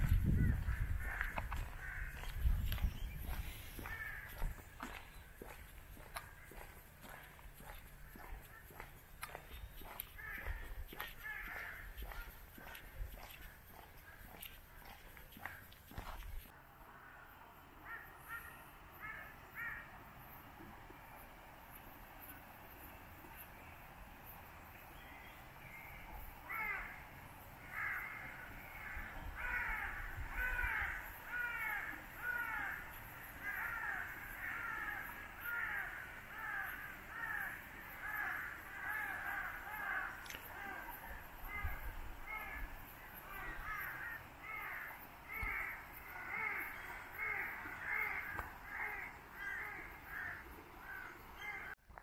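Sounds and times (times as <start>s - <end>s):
birds calling: 0.0s - 16.5s, 24.8s - 51.8s
faint outdoor background: 0.0s - 52.0s.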